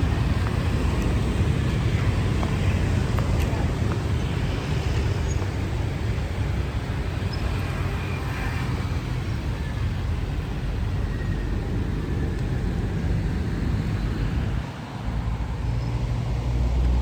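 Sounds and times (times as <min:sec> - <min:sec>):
car engine low rumble: 0:00.0 - 0:17.0.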